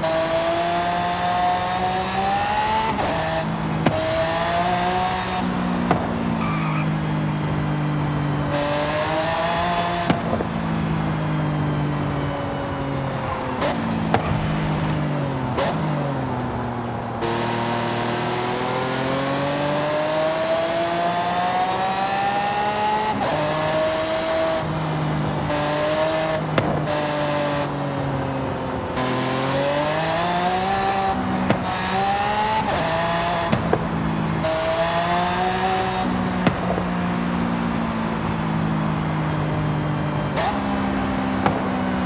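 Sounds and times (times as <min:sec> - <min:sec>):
car engine accelerating through gears: 0:00.0 - 0:42.0
exhaust cracks: 0:01.1 - 0:19.5, 0:23.0 - 0:42.0.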